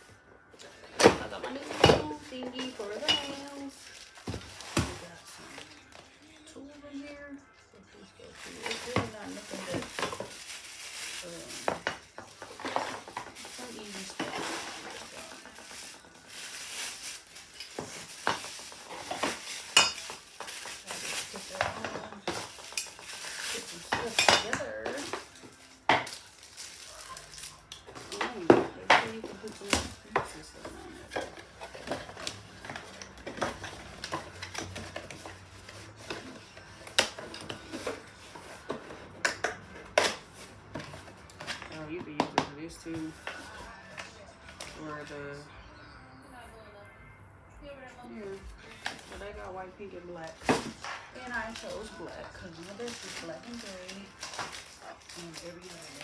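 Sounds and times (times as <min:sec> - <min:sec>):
packaging rustling: 0:00.0 - 0:06.7, 0:08.3 - 0:41.8, 0:42.9 - 0:44.9, 0:48.4 - 0:56.0.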